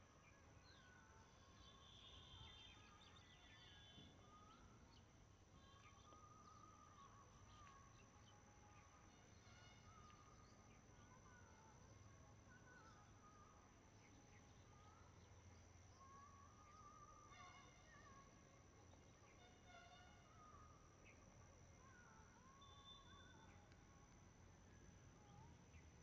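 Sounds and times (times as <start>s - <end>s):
faint bird chirps: 0.0s - 26.0s.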